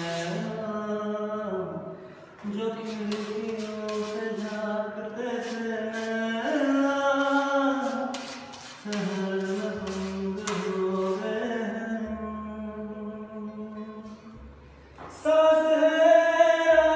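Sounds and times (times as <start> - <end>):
man singing slow song: 0.0 - 16.9.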